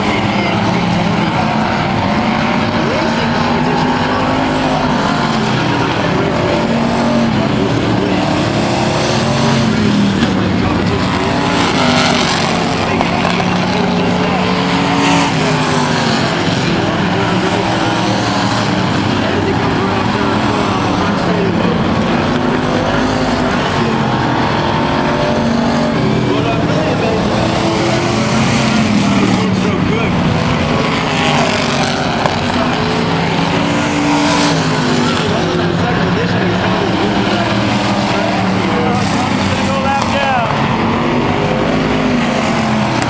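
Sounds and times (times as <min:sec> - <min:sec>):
crowd and track noise: 0:00.0 - 0:43.0
racing truck engines: 0:00.0 - 0:43.0.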